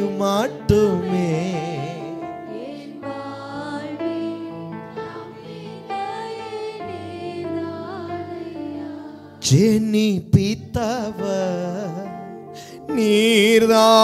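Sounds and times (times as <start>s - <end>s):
instrumental worship music: 0.0s - 14.0s
soft melody line: 0.0s - 14.0s.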